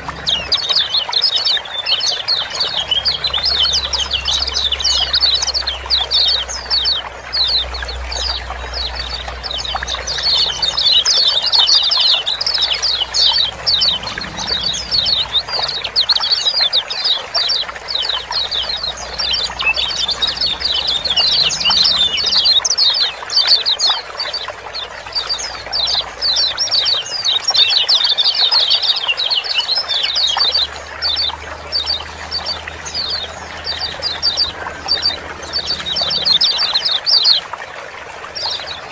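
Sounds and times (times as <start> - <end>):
birds chirping rapidly: 0.0 - 38.9.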